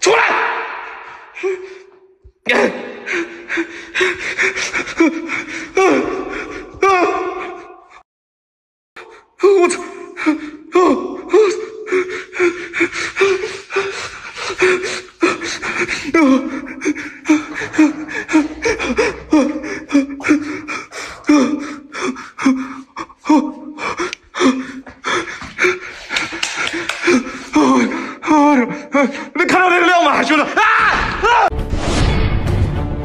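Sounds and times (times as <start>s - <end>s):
person gasping and panting: 0.8s - 8.0s, 9.0s - 29.4s.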